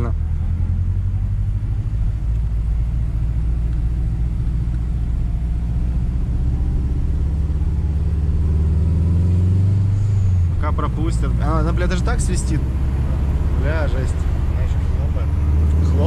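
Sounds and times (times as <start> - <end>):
car engine drone from cabin: 0.0 - 16.0.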